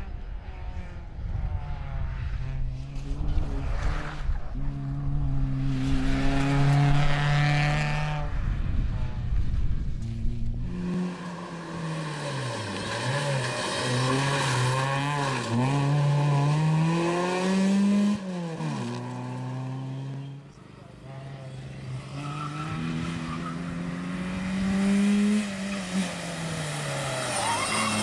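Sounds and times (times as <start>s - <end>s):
second rally car engine revving: 0.0s - 8.4s, 10.0s - 28.0s
rally car engine at high revs: 0.0s - 9.2s, 10.0s - 28.0s.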